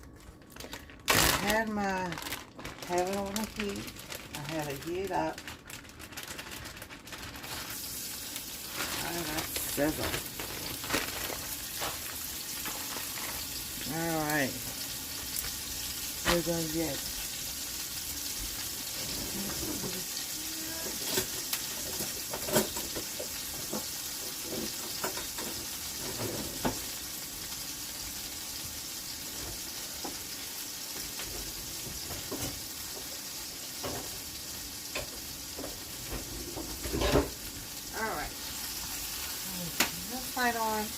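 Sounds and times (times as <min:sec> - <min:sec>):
meat sizzling in a pan: 0:06.9 - 0:40.9.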